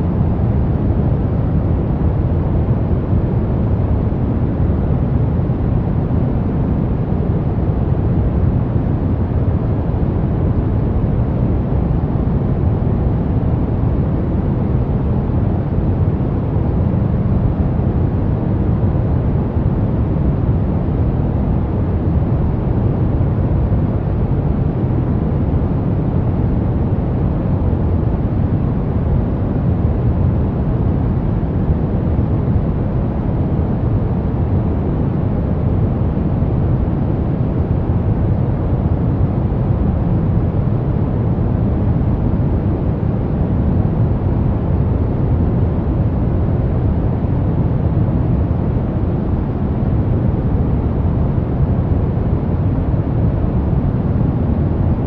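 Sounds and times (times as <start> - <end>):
brown noise: 0.0 - 55.0.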